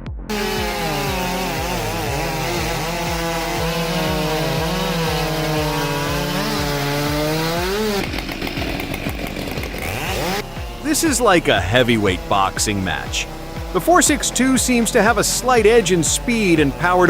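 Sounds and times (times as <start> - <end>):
chainsaw cutting at high revs: 0.3 - 17.0.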